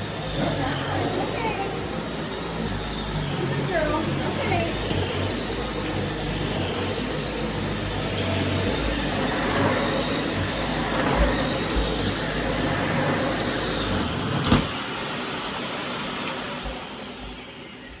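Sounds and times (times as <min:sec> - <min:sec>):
motor whine sliding down: 0:00.0 - 0:18.0
vacuum cleaner running: 0:00.0 - 0:18.0.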